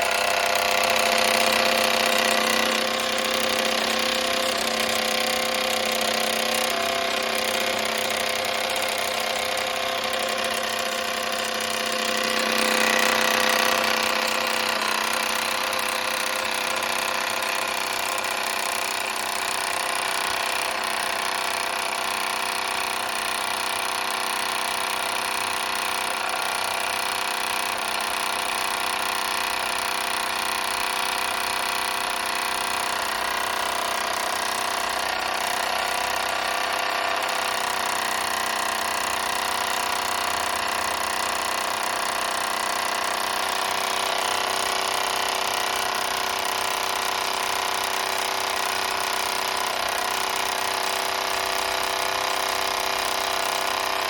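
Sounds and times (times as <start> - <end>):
toy steam engine chuffing: 0.0 - 54.0.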